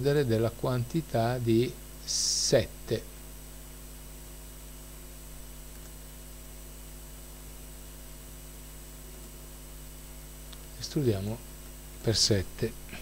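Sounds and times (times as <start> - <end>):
background hiss: 0.0 - 9.5, 10.1 - 13.0
electrical mains hum: 0.0 - 13.0.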